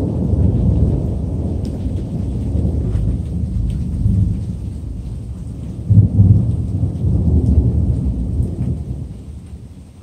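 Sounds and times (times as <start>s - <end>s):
thunder rumbling: 0.0s - 10.0s.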